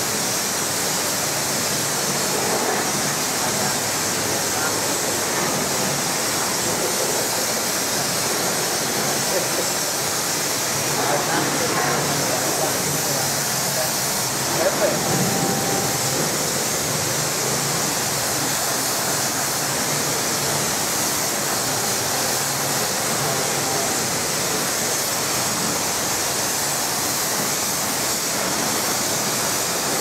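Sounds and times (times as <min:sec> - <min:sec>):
pressure washer spraying water: 0:00.0 - 0:30.0.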